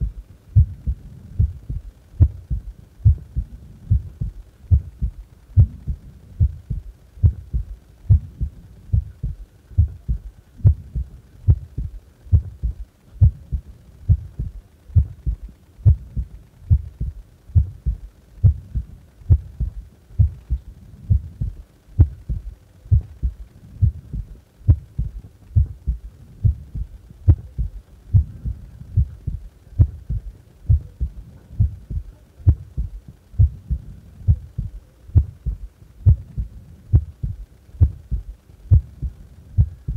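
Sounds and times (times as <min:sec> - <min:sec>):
heart beating: 0:00.0 - 0:39.9.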